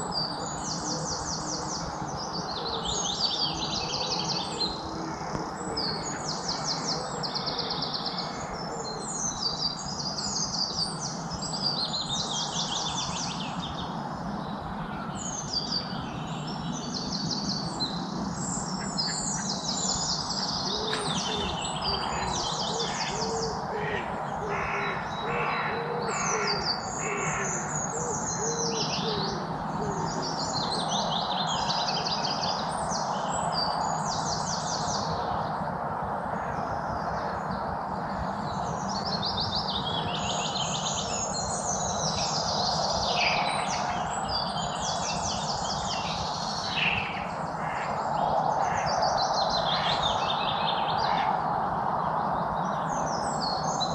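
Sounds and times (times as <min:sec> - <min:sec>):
wild birds singing: 0:00.0 - 0:53.9.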